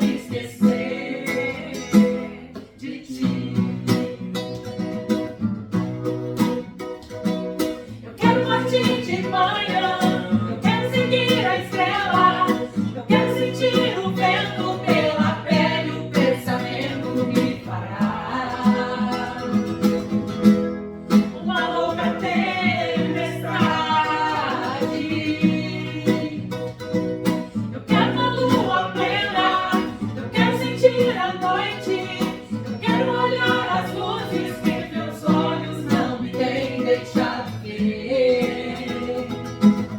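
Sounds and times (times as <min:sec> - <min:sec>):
voices singing: 0:00.0 - 0:04.3, 0:07.8 - 0:39.9
guitar strumming: 0:00.0 - 0:39.9.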